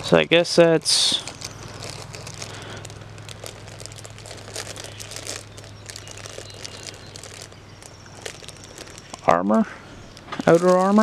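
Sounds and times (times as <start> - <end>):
plastic bag crinkling: 0.6 - 11.0.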